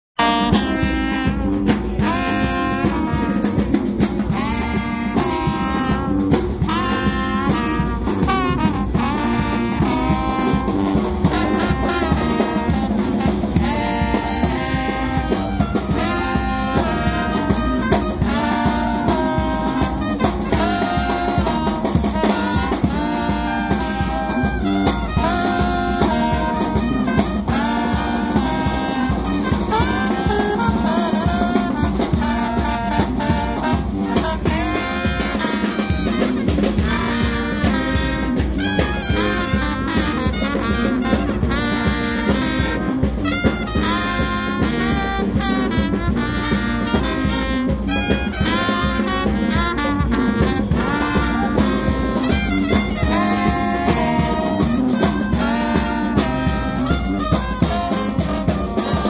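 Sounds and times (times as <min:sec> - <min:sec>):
bass drum and cymbal beat: 0:00.2 - 0:59.0
trombones and trumpets: 0:00.2 - 0:59.0.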